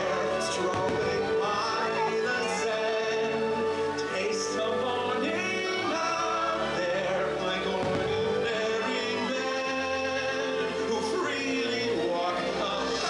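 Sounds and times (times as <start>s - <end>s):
orchestral music with singing: 0.0s - 13.0s.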